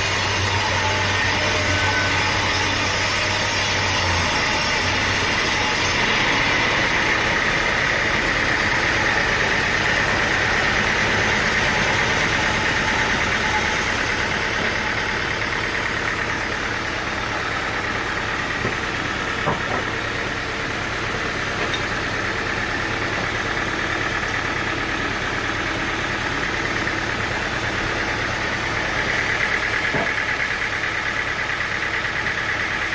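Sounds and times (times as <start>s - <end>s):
sawmill engine running: 0.0s - 32.9s.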